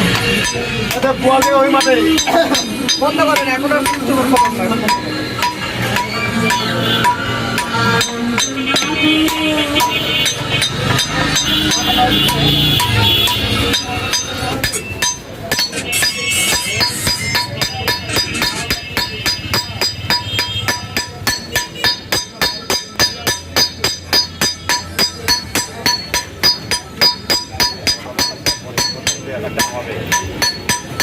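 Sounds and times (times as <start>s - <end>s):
hammer striking iron on anvil: 0.0s - 31.0s.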